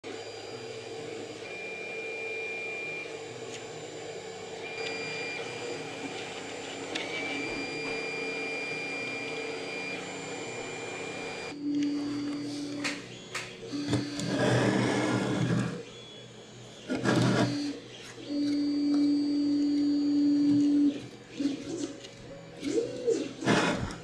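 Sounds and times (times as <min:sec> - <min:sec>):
cooling fans hissing: 0:00.0 - 0:24.0
stepper motors whining: 0:00.1 - 0:24.0.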